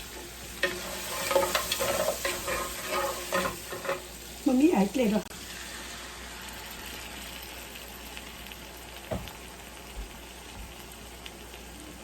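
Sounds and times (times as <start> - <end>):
crab sizzling in a pan: 0.0 - 12.0.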